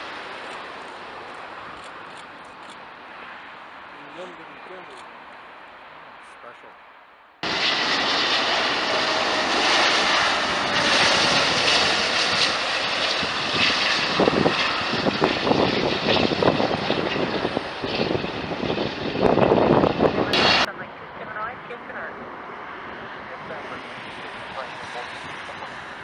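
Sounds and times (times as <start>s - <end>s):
jet engines roaring: 0.0s - 6.8s, 7.4s - 26.0s.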